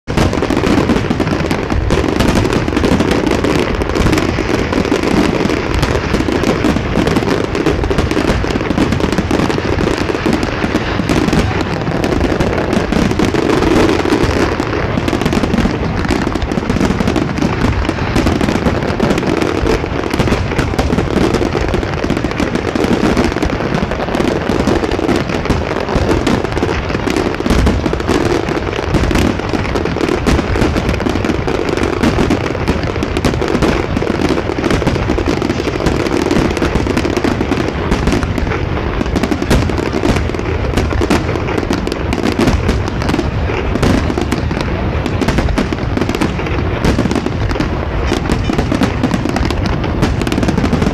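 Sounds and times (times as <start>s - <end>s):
fireworks banging and crackling: 0.0s - 50.9s.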